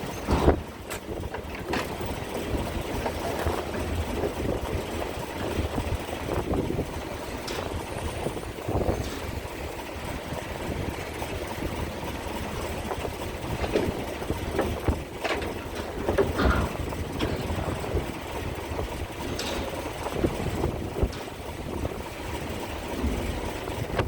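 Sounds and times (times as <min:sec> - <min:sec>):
ferry engines rumbling: 0:00.0 - 0:24.0
knocks and clanks: 0:00.0 - 0:24.0
wind buffeting microphone: 0:00.0 - 0:24.0.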